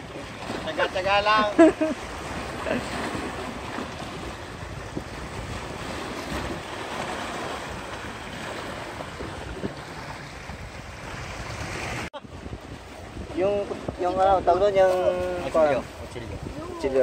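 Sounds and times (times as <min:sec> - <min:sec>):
waves breaking on rocks: 0:00.0 - 0:17.0
wind buffeting microphone: 0:00.0 - 0:17.0.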